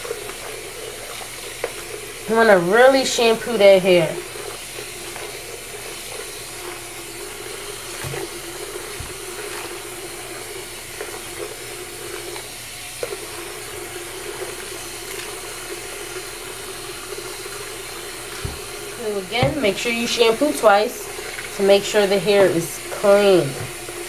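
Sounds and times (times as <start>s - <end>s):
hair being scrubbed with shampoo: 0.0s - 24.0s.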